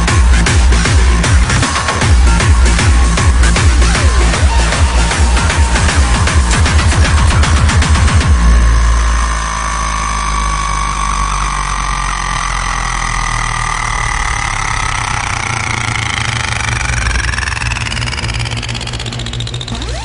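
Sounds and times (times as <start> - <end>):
electronic music with sliding tones: 0.0 - 20.0.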